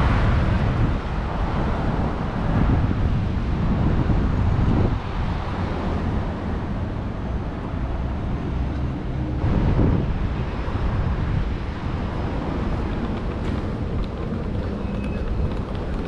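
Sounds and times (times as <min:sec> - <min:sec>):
street noise: 0:00.0 - 0:16.0
wind buffeting microphone: 0:00.0 - 0:16.0.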